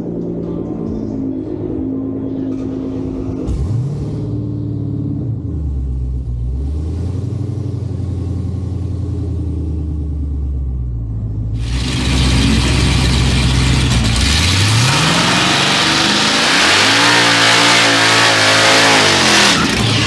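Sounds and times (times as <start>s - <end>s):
car engine at full throttle: 3.0s - 20.0s.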